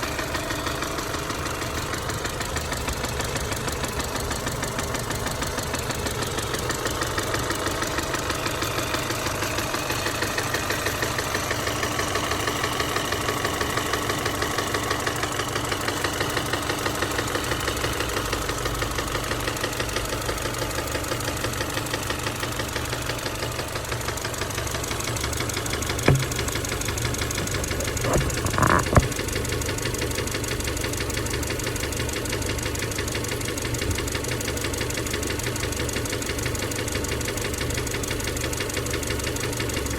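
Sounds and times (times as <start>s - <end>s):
engine running with rhythmic knocking: 0.0s - 39.9s.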